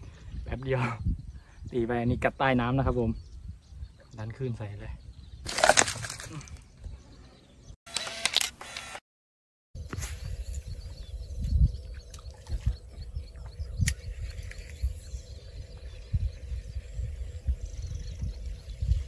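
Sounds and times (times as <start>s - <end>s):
wind buffeting microphone: 0.0s - 7.2s, 9.8s - 19.0s.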